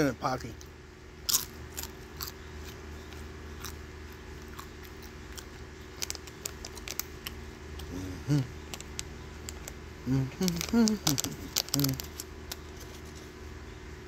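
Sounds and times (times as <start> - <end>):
low voiced hum: 0.0 - 14.0
steady low hum: 0.0 - 14.0
chewing tortilla chip: 0.6 - 13.2.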